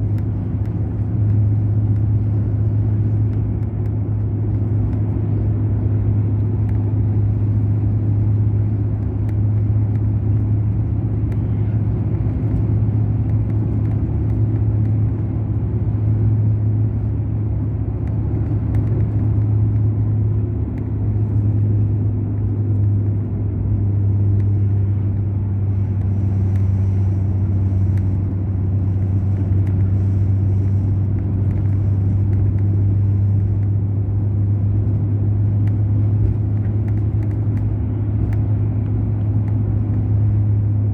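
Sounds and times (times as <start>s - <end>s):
diesel coach engine droning: 0.0s - 40.9s.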